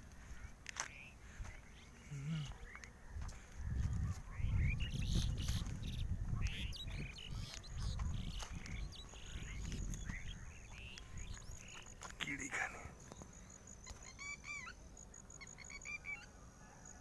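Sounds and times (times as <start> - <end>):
small birds chirping: 0.0 - 16.4.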